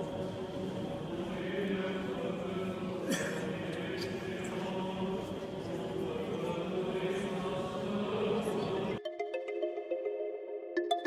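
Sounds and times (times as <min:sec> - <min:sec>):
crowd murmur: 0:00.0 - 0:09.7.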